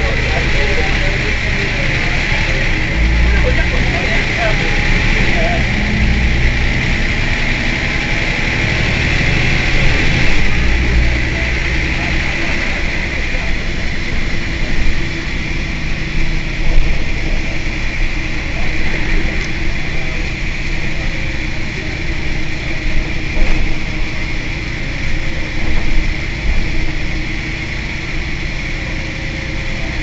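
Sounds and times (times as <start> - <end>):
bus diesel engine idling: 0.0 - 30.0.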